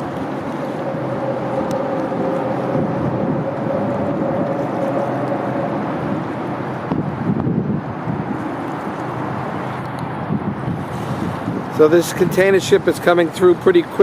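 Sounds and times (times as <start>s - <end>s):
engine drone: 0.0s - 11.5s
wind noise on microphone: 0.0s - 13.1s.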